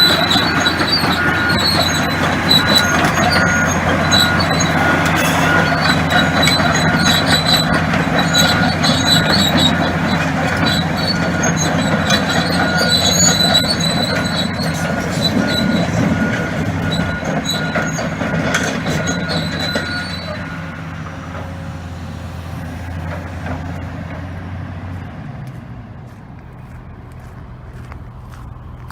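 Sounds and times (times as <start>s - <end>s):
high squeal: 0.0s - 23.9s
excavator diesel engine running: 0.0s - 28.9s.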